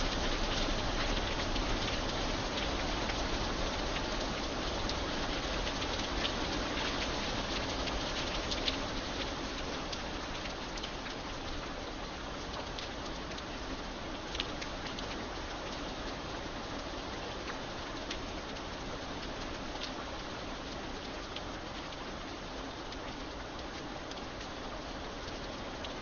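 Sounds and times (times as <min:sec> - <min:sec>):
raindrops ticking: 0:00.0 - 0:26.0
steady rain hissing: 0:00.0 - 0:26.0.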